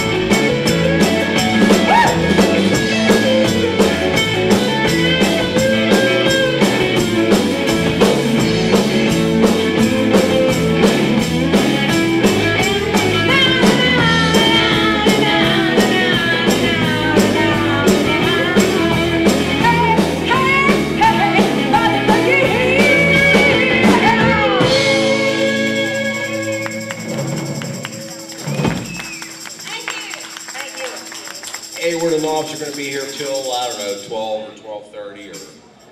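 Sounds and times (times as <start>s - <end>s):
live rock band playing: 0.0s - 34.1s.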